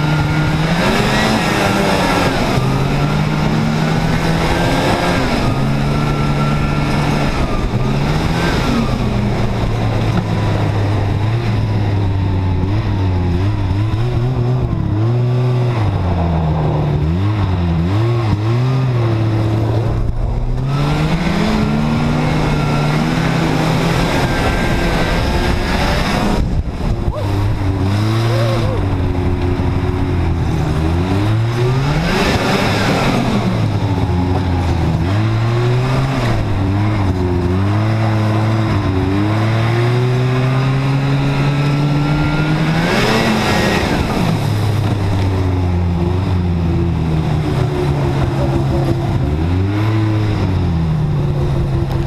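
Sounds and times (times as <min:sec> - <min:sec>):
snowmobile engine revving: 0:00.0 - 0:52.0.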